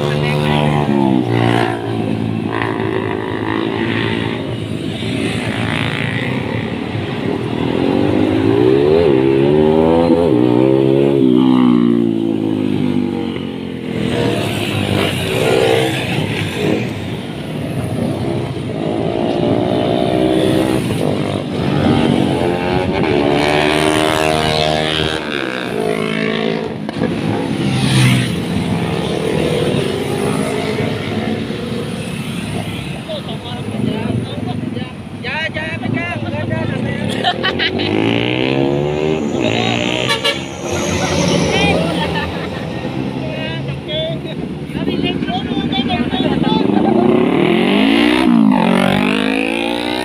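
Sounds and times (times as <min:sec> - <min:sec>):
motorcycle engines revving past: 0:00.0 - 0:35.2, 0:35.8 - 0:50.0.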